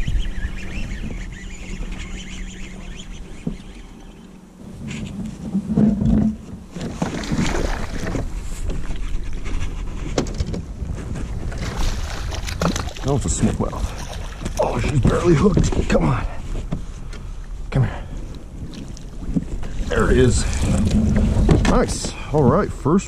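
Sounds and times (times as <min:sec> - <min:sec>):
water lapping against kayak: 0:00.0 - 0:22.4
wind buffeting microphone: 0:00.0 - 0:22.9.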